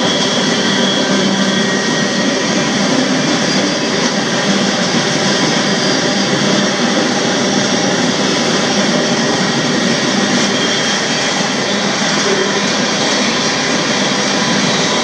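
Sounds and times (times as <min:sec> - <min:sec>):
freight train roaring: 0:00.0 - 0:15.0.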